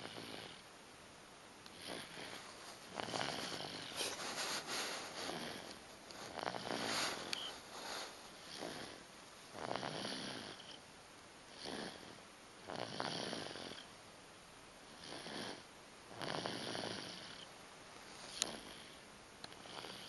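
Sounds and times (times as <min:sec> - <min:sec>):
baby snoring: 0:00.0 - 0:00.6, 0:01.7 - 0:10.8, 0:11.5 - 0:13.9, 0:14.9 - 0:17.5, 0:18.2 - 0:20.0.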